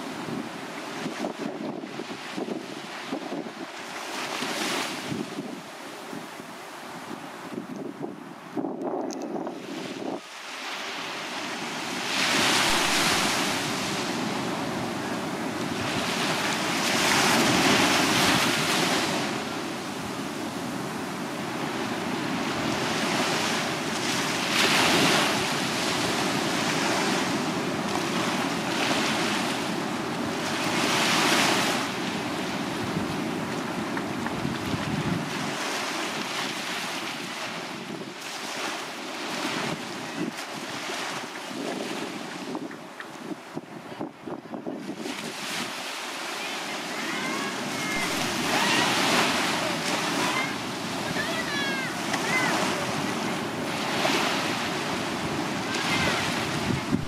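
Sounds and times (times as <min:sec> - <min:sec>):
small waves breaking on beach: 0:00.0 - 0:08.7, 0:09.3 - 0:57.0
wind rumble on microphone: 0:00.0 - 0:46.0, 0:46.8 - 0:57.0.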